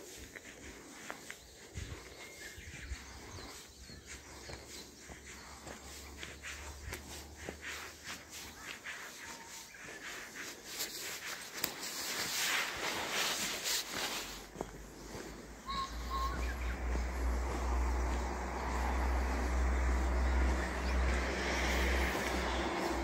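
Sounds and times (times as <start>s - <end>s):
bird chirp: 0.0s - 23.0s.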